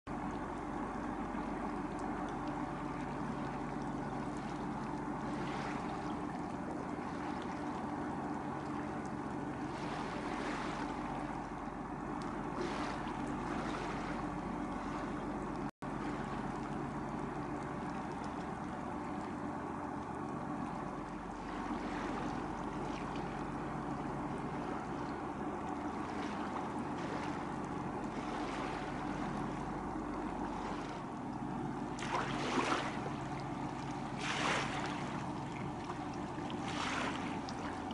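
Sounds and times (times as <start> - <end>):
boat engine idling: 0.1 - 37.9
water splashing: 0.2 - 37.9.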